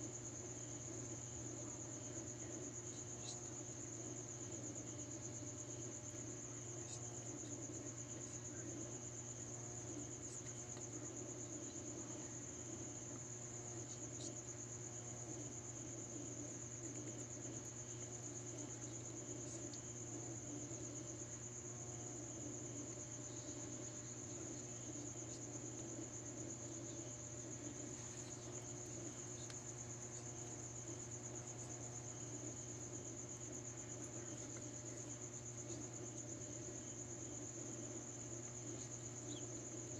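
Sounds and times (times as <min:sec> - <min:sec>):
crickets trilling: 0:00.0 - 0:39.9
low steady hum: 0:00.0 - 0:39.9.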